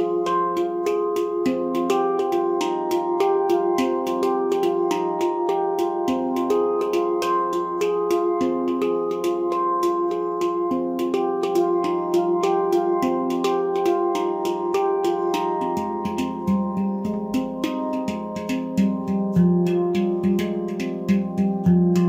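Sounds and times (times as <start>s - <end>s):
handpan played with hands: 0.0s - 22.0s.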